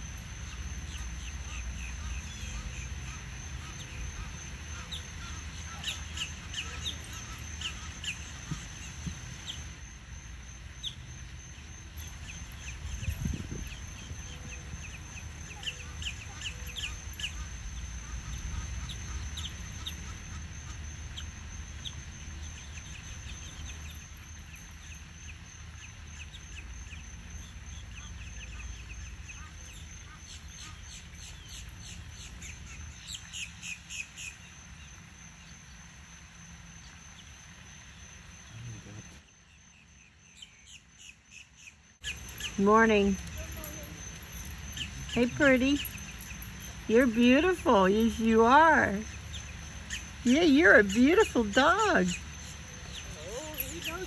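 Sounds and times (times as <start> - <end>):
birds chirping: 0.0 - 9.8, 10.7 - 54.0.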